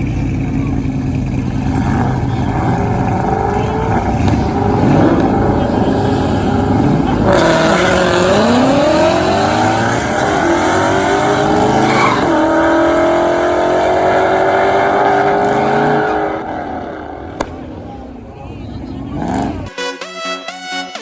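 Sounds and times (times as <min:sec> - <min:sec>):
car engine accelerating hard: 0:00.0 - 0:19.7.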